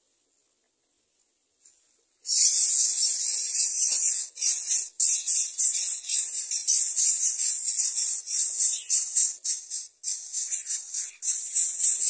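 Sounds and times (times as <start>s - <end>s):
nestlings hissing: 2.3s - 12.0s.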